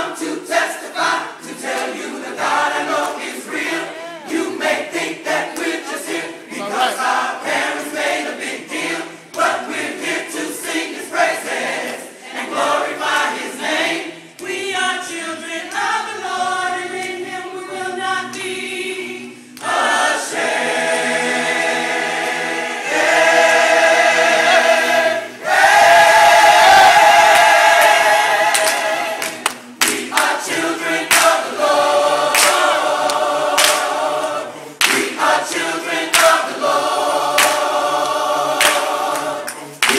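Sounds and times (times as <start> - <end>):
gospel choir singing in harmony: 0.0 - 39.9.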